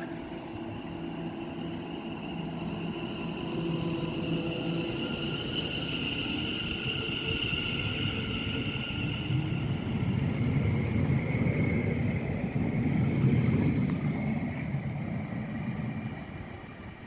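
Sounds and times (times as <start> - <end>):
faint train whine: 0.0 - 17.0
passenger train rumbling: 0.0 - 17.0.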